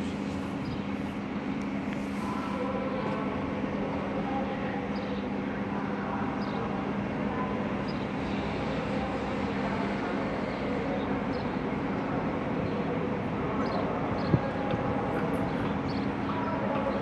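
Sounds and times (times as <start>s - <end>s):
constant low hum: 0.0s - 17.0s
train rolling rumble: 0.0s - 17.0s.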